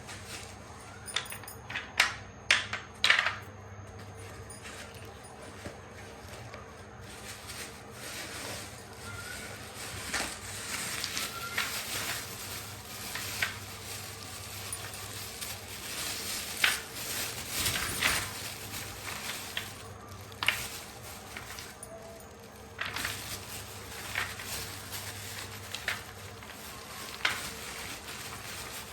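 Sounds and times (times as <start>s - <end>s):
packaging crinkling and rustling: 0.0s - 28.9s.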